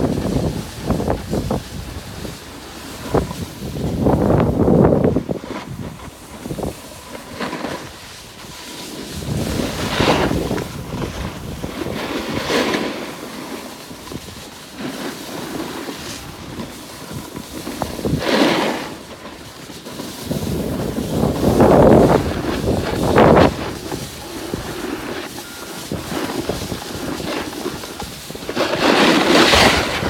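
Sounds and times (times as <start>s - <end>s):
wind rushing over microphone: 0.0s - 12.7s, 16.0s - 19.0s, 20.2s - 30.0s
skis scraping snow: 0.0s - 30.0s.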